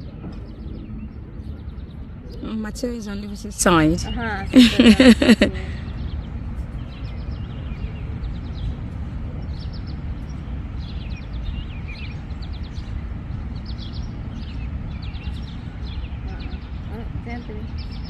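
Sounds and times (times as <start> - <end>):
bird chirping: 0.0 - 18.0
low outdoor rumble: 0.0 - 18.0.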